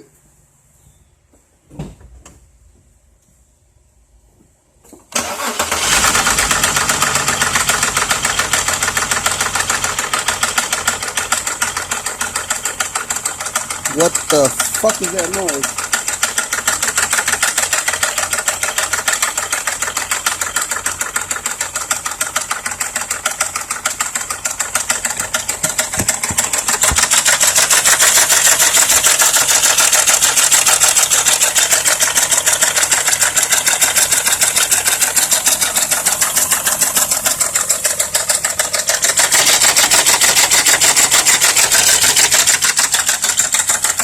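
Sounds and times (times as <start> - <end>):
engine knocking clatter: 5.8 - 44.0.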